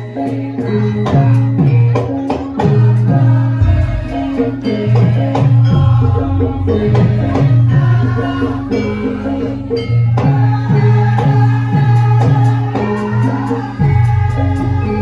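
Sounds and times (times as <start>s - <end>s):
metallophone melody: 0.0s - 15.0s
steady drum beat: 0.6s - 15.0s.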